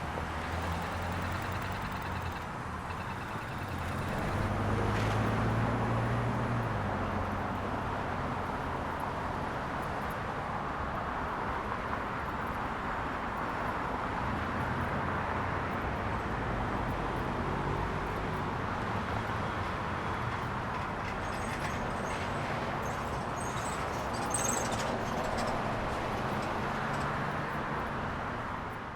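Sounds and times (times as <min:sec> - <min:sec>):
passing cars: 0:00.0 - 0:28.9.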